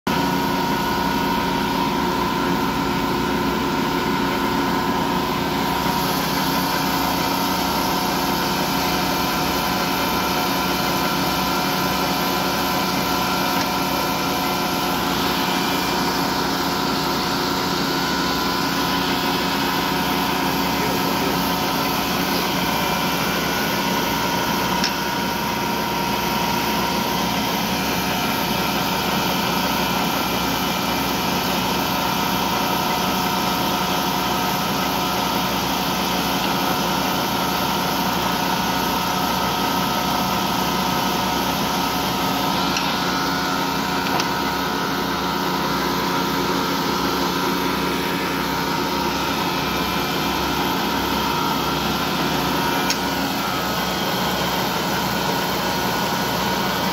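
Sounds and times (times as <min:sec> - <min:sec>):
lathe cutting metal drone: 0:00.1 - 0:56.9.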